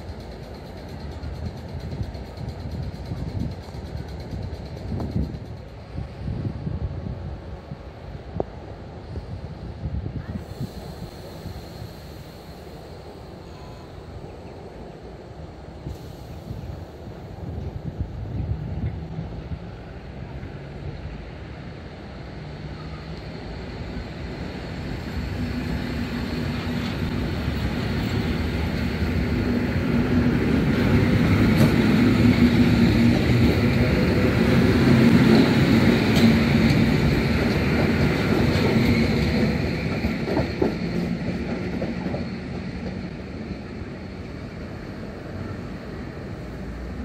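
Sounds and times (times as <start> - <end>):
train wheels running on rails: 0.0 - 47.0.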